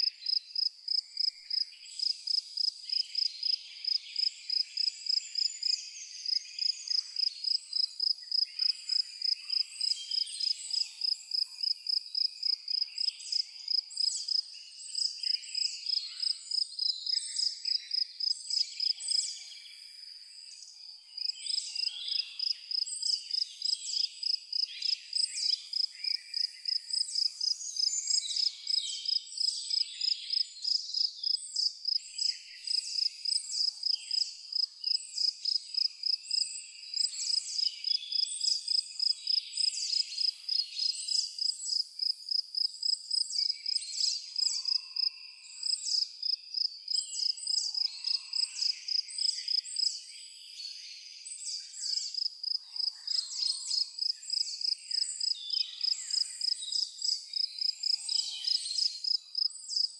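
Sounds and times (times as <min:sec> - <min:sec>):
crickets chirping: 0:00.2 - 0:14.4, 0:22.4 - 0:43.8, 0:44.4 - 0:49.9, 0:51.9 - 0:52.9, 0:53.7 - 0:59.9
birds singing and calling: 0:01.0 - 0:59.9.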